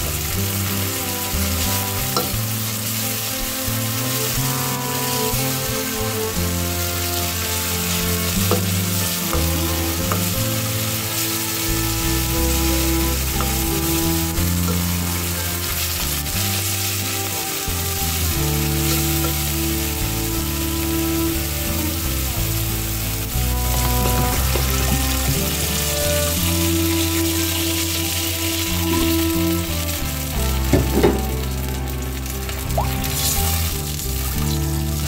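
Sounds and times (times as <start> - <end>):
tomato paste sizzling in oil: 0.0 - 35.0.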